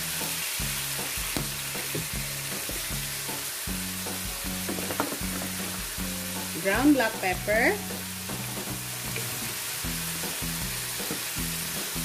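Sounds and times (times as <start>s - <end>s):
background music with steady beat: 0.0s - 12.0s
meat sizzling in hot oil: 0.0s - 12.0s.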